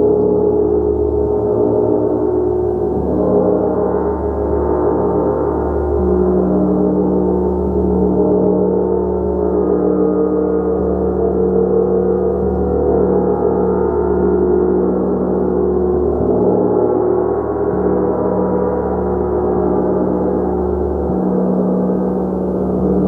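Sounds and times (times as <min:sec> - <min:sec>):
gong sustained tones: 0:00.0 - 0:23.0.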